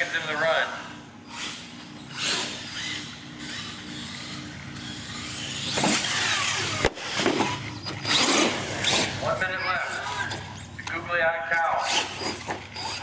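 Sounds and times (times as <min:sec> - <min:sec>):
toy truck motor whining: 0:01.2 - 0:10.6, 0:11.8 - 0:13.0.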